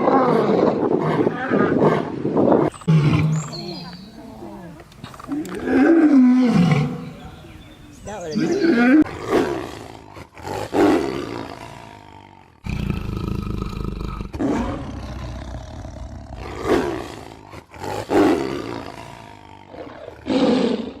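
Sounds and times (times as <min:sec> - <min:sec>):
lion roaring and grunting: 0:00.0 - 0:07.2, 0:08.3 - 0:21.0.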